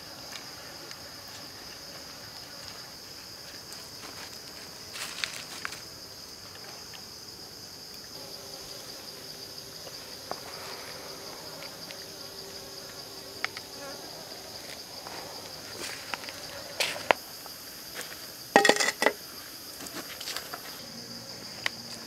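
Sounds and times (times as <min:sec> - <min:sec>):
insect chorus drone: 0:00.0 - 0:22.0.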